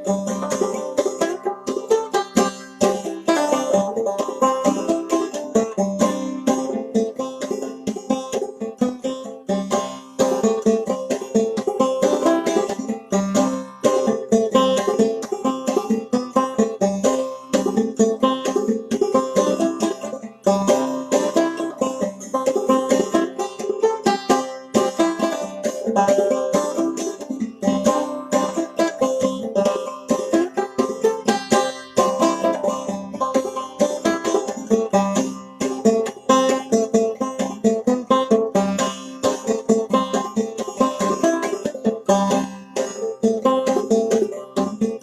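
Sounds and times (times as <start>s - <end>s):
solo banjo playing: 0.0s - 45.0s.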